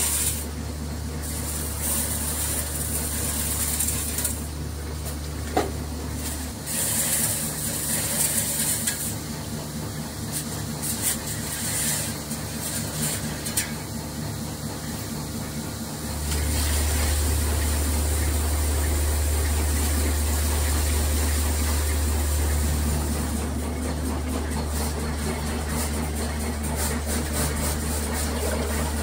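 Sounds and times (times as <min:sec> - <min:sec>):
factory machinery humming: 0:00.0 - 0:29.0.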